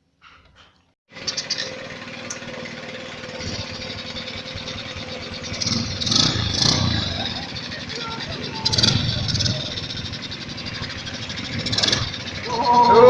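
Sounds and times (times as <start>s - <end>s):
small motorcycle engine chugging: 1.1s - 13.0s.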